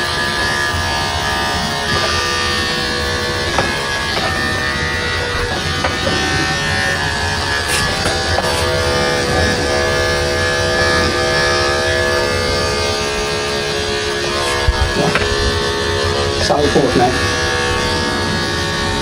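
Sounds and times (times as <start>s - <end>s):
electric clipper buzzing: 0.0s - 19.0s.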